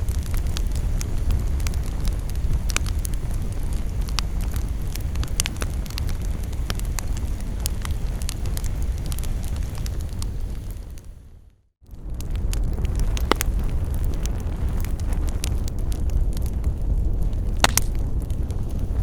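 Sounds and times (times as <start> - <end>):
campfire crackling and popping: 0.0 - 11.2, 11.9 - 19.0.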